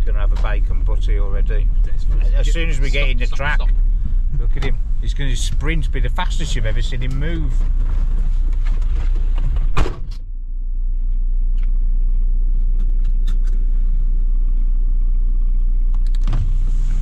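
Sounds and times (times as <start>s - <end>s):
vehicle engine low rumble: 0.0s - 17.0s.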